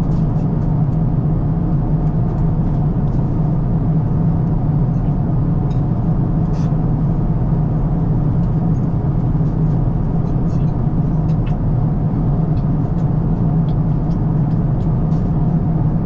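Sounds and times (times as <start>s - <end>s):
airliner cabin rumble and hiss: 0.0s - 16.0s.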